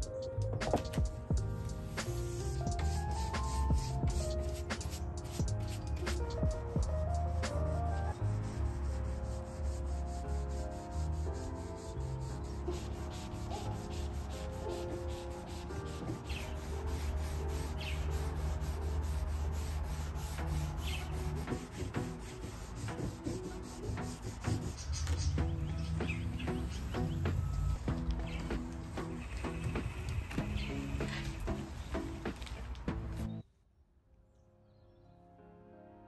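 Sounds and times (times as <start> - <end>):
quiet background music: 0.0 - 36.0
rag rubbing on wood: 1.8 - 6.6, 7.4 - 32.4.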